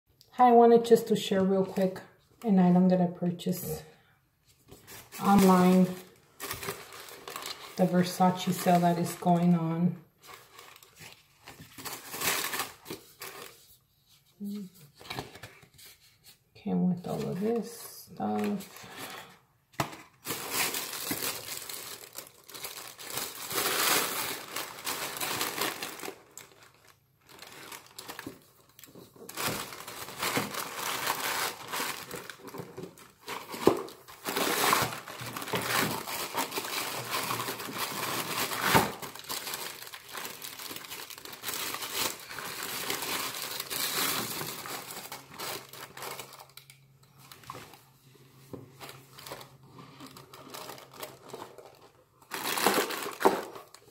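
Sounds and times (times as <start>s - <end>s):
tissue paper crinkling: 4.7s - 9.3s, 10.2s - 16.2s, 20.2s - 47.9s, 48.8s - 53.9s.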